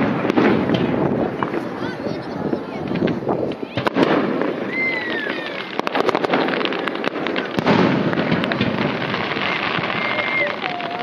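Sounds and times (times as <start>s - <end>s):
fireworks bursting: 0.0s - 11.0s
fireworks crackling: 0.0s - 11.0s.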